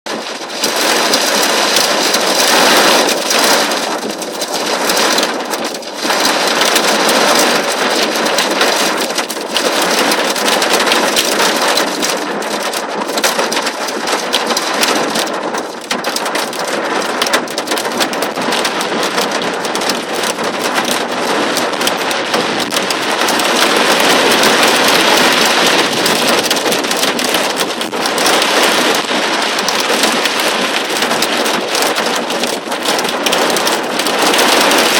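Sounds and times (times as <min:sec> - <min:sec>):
torrential rain pouring: 0:00.1 - 0:34.9.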